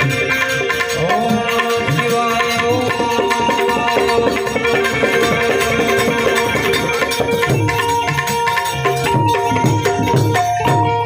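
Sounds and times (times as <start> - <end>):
hand drum strokes: 0.0 - 11.0
harmonium: 0.0 - 11.0.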